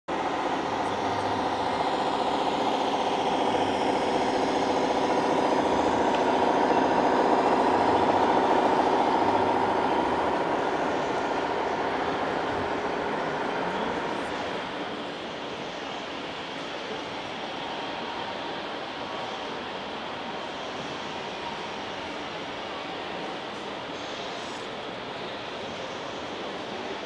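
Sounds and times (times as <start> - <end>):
simulated diesel engine from speaker: 0.1 - 27.0.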